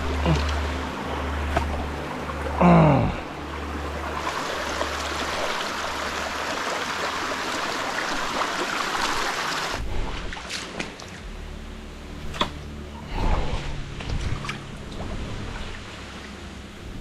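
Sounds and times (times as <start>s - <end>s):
stream water rushing: 0.0s - 11.3s, 13.1s - 17.0s.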